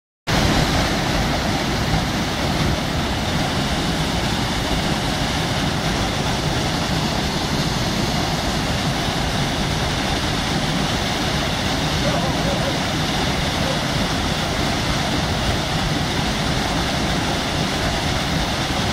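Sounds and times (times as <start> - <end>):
waterfall rushing over rocks: 0.3 - 18.9.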